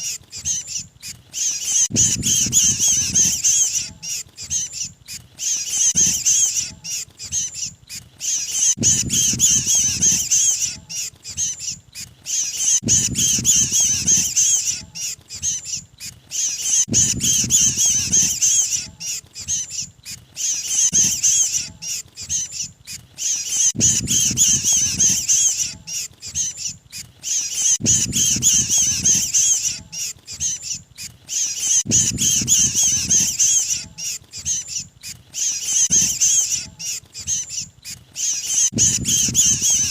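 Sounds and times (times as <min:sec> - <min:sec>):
bird squawking distress calls: 0:00.0 - 0:39.9.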